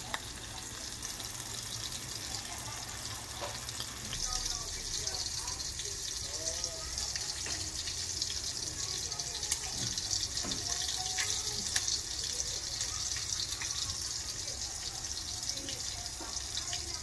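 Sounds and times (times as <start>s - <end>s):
shrimp frying in oil: 0.0s - 17.0s.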